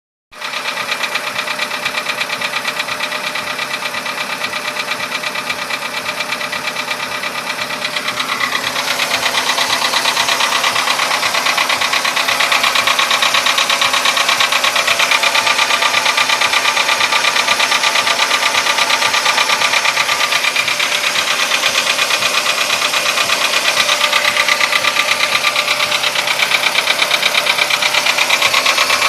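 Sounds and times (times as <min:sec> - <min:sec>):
car engine with fast knock: 0:00.4 - 0:29.0.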